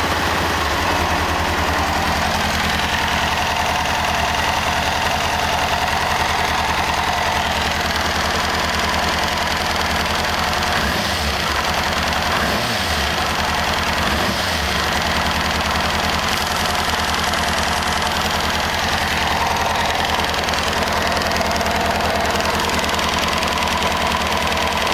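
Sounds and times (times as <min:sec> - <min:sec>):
engine clicking noise: 0:00.0 - 0:24.9
motorcycle engine idling: 0:00.0 - 0:24.9.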